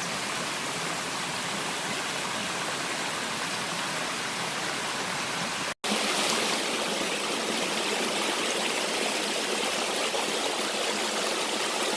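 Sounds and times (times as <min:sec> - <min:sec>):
stream flowing over rocks: 0:00.0 - 0:11.9.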